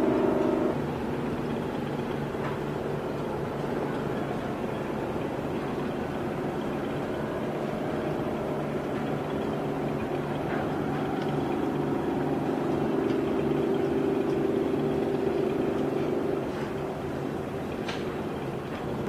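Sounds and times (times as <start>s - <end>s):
ship engines humming: 0.0s - 19.0s.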